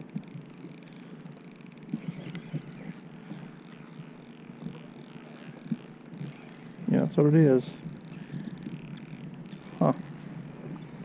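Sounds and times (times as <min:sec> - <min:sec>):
spinning reel whirring: 0:00.0 - 0:11.0.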